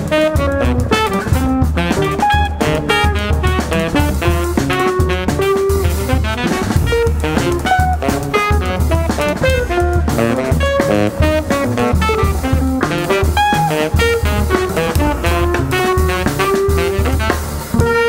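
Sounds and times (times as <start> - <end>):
drum kit with cymbals: 0.0 - 18.0
electric guitar: 0.0 - 18.0
tenor saxophone: 0.0 - 18.0
walking double bass: 0.0 - 18.0.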